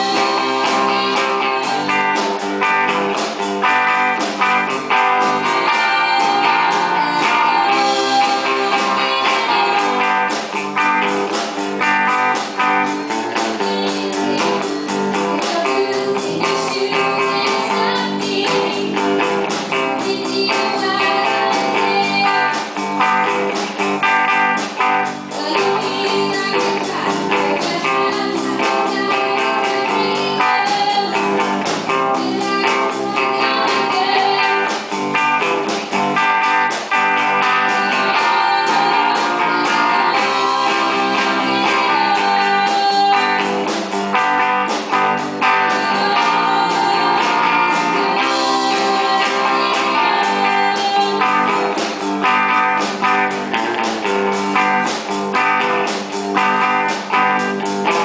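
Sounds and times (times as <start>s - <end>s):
girl singing into a microphone: 0.0s - 11.1s, 12.0s - 35.5s, 36.2s - 53.6s
blues-rock band playing: 0.0s - 58.0s.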